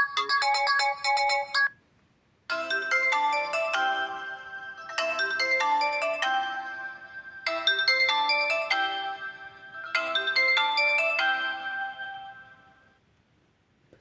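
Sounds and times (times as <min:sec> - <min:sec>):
electronic phone ringtone melody: 0:00.0 - 0:01.8, 0:02.5 - 0:13.0.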